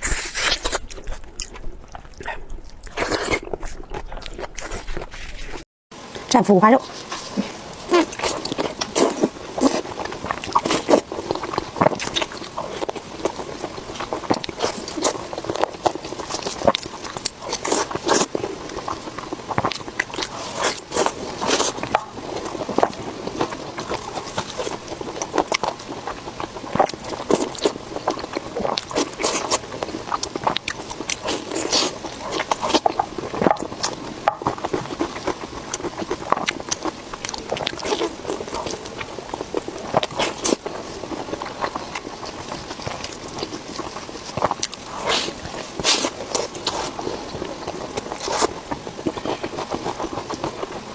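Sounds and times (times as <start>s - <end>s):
person chewing crunchy food: 0.0s - 6.2s, 6.8s - 50.9s.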